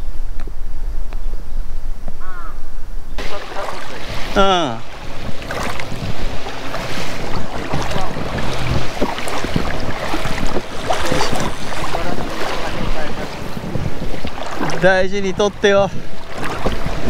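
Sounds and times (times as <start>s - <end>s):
wind on microphone: 0.0s - 17.0s
water sloshing around legs: 3.2s - 17.0s.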